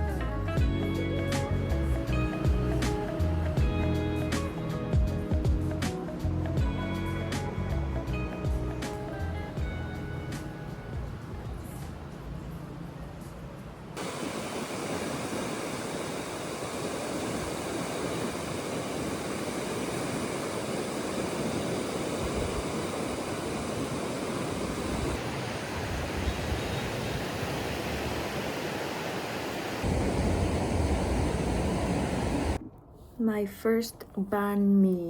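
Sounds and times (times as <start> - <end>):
wind: 0.0 - 33.6
ocean surf rushing: 1.2 - 12.1, 14.0 - 32.6.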